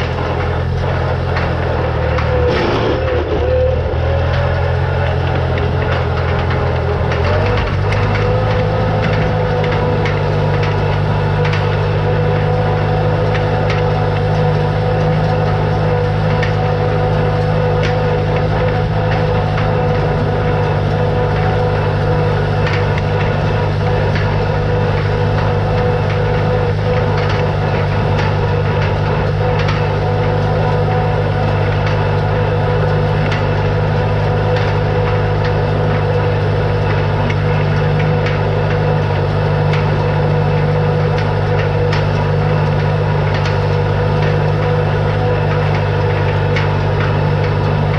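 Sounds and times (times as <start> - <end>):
faint clicks and rattles: 0.0 - 47.9
tractor engine running: 0.0 - 47.9.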